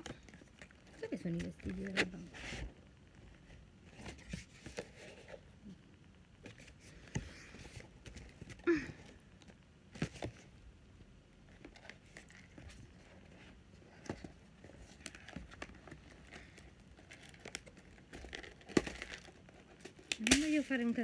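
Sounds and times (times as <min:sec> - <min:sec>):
cardboard rustling and crinkling: 0:00.0 - 0:05.5, 0:06.4 - 0:10.6, 0:11.4 - 0:21.0.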